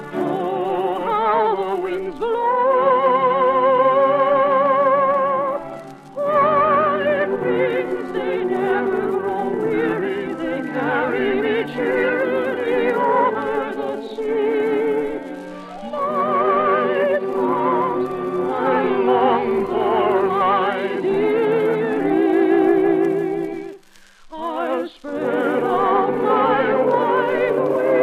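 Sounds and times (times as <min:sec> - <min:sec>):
soprano singing operatically: 0:00.0 - 0:28.0.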